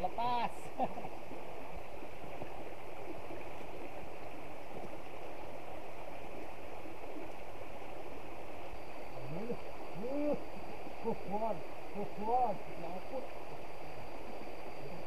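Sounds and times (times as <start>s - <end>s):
river running over stones: 0.0s - 15.0s.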